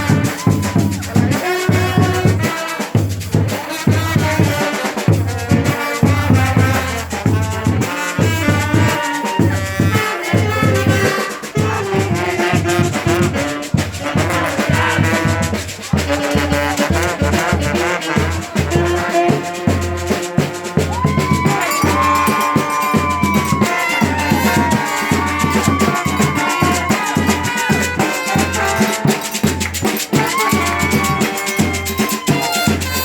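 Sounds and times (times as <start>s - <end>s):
bass drums beating: 0.0s - 33.0s
saxophones: 0.0s - 33.0s
snare drums: 0.0s - 33.0s
trombones: 0.0s - 33.0s
trumpets: 0.0s - 33.0s.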